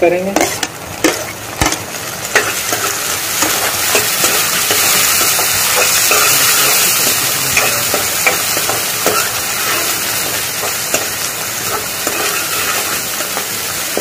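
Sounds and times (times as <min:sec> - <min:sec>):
vegetables sizzling in hot oil: 0:00.0 - 0:14.0
metal spoon scraping a pan: 0:00.3 - 0:14.0.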